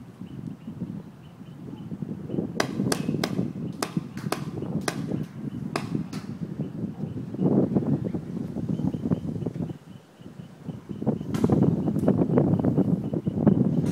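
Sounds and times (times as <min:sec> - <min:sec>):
wind on microphone: 0:00.0 - 0:13.9.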